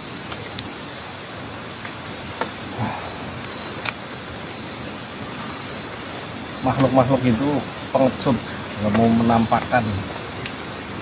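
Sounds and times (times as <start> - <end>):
high insect drone: 0.0 - 11.0
steady hiss: 0.0 - 11.0.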